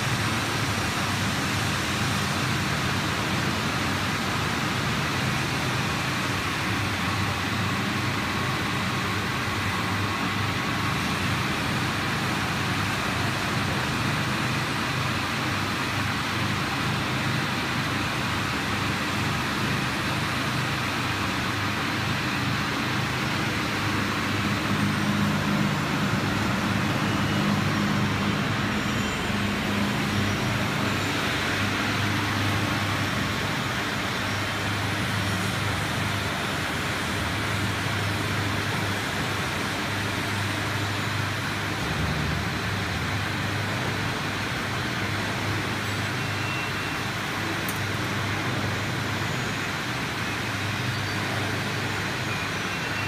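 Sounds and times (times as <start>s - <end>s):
fan rushing air: 0.0s - 46.4s.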